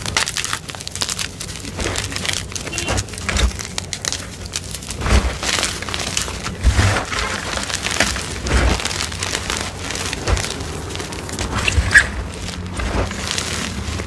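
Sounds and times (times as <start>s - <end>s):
chalk crunching and crumbling: 0.0s - 14.0s.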